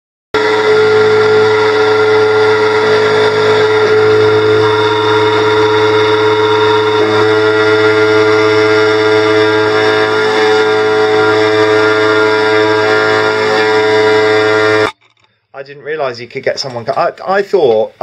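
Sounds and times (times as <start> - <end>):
key-cutting machine motor whine: 0.4 - 15.0.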